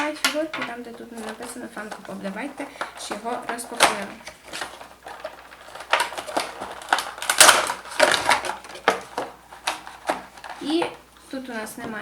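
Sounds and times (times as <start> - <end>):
cardboard box and plastic handling: 0.0 - 11.0.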